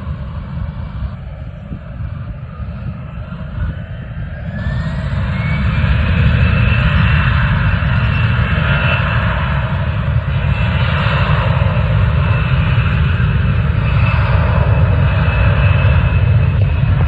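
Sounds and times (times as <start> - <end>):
airplane engines passing: 0.0 - 17.0.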